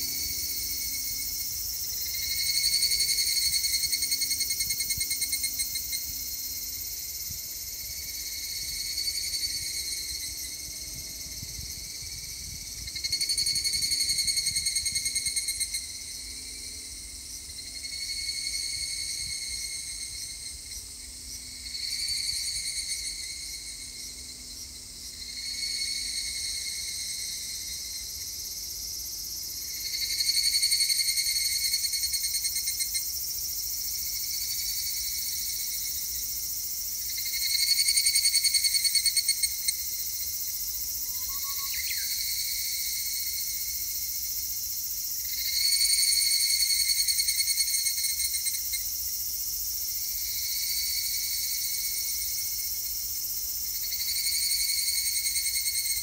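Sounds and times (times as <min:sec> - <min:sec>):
cicadas singing: 0:00.0 - 0:56.0.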